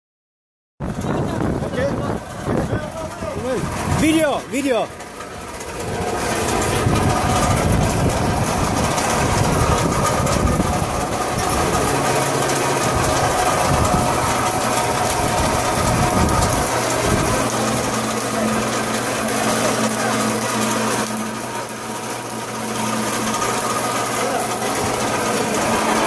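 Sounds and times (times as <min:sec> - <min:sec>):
sugarcane press running: 0:00.8 - 0:26.0.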